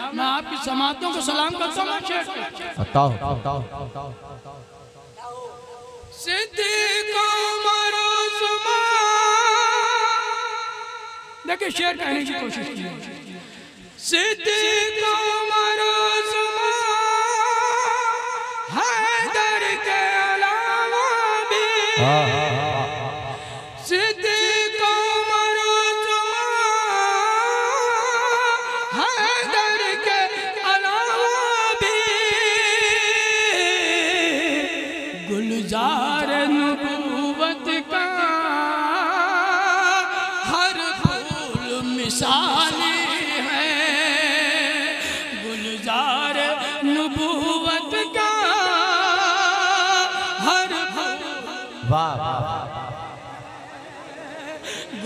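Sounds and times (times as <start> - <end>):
man singing: 0.0 - 4.6, 5.2 - 55.0.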